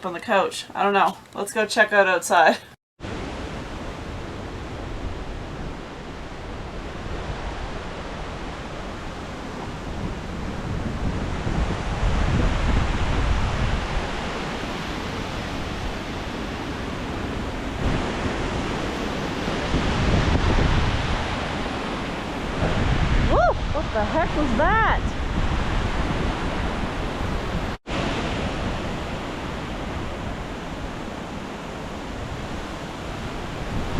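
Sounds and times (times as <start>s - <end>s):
storm wind gusting: 3.1s - 33.9s
wind buffeting microphone: 3.7s - 33.9s.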